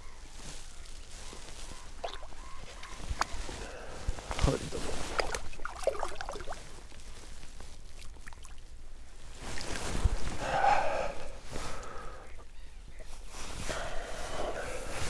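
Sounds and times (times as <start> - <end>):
dry reeds rustling: 0.0 - 15.0
breathy scuffling: 0.4 - 7.7, 9.4 - 15.0.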